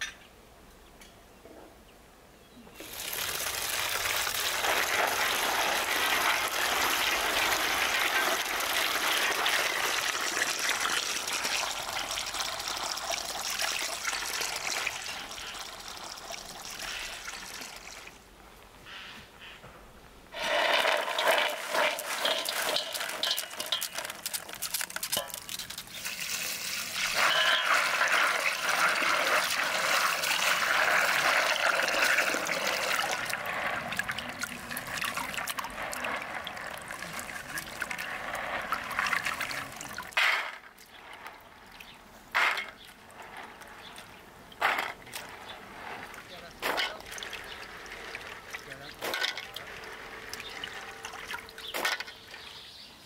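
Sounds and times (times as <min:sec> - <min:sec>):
hose water splashing into metal basin: 0:02.8 - 0:18.2, 0:20.3 - 0:52.5.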